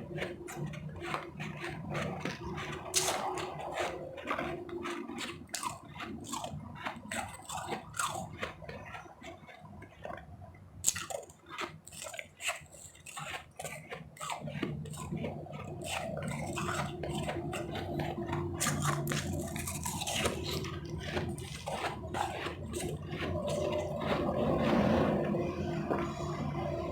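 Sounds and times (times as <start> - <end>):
ice chips crunching: 0.5 - 8.6, 10.8 - 24.6.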